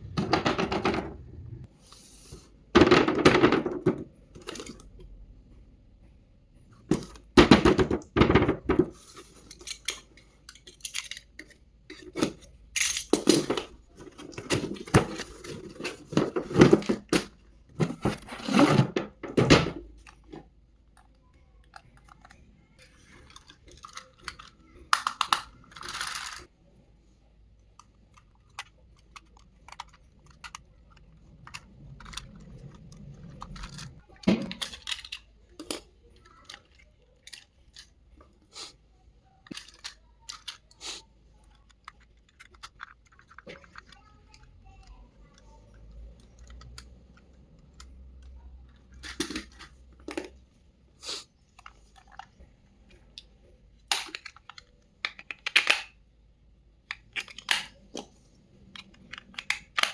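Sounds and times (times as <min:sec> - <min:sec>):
toy packaging being handled: 0:06.9 - 0:18.7, 0:19.8 - 0:56.0, 0:56.8 - 0:59.9.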